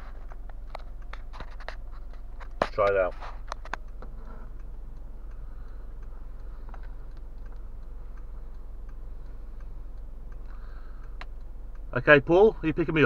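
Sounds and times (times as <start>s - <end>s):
low hum in car cabin: 0.0s - 13.0s
faint light ticks: 0.1s - 13.0s.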